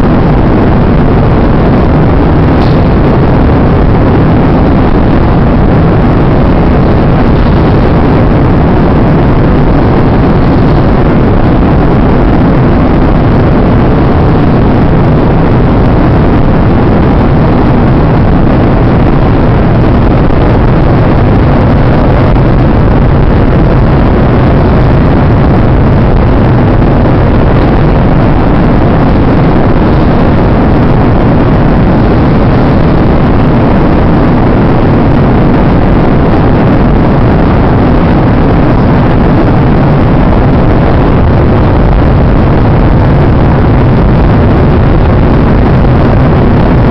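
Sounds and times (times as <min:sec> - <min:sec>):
aircraft engine and airflow drone: 0:00.0 - 0:46.9.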